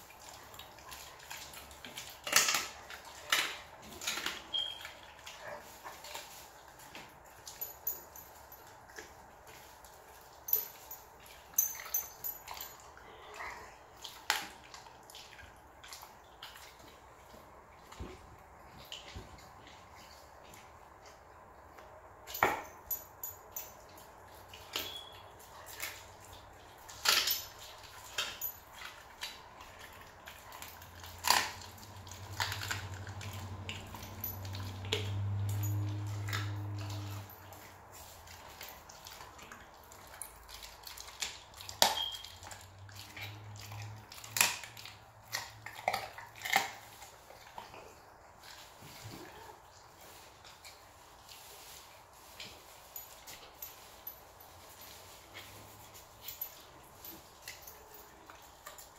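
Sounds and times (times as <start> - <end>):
dog chewing bones: 0.0 - 21.1, 22.4 - 58.9.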